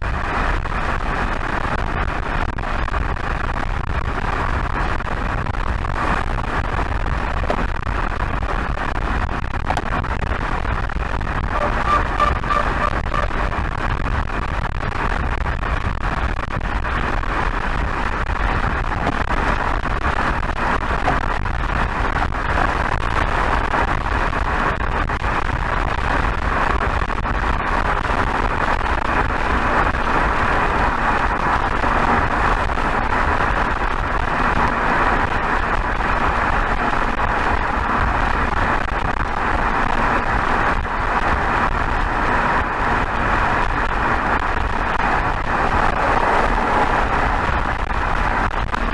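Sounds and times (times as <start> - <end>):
car exhaust drone: 0.0 - 48.9
wind and road noise: 0.0 - 48.9.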